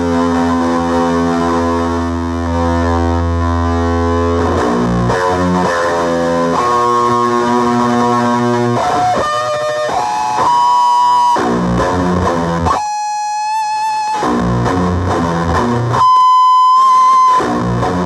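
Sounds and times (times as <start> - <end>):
overdriven electric guitar: 0.0 - 18.0.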